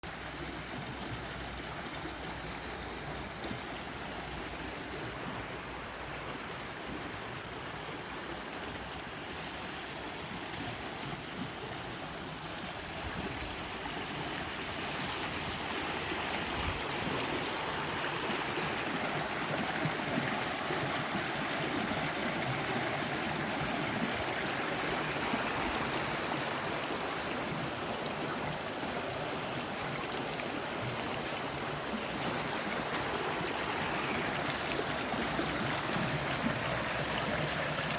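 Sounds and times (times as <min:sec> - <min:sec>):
water rushing: 0:00.0 - 0:37.9.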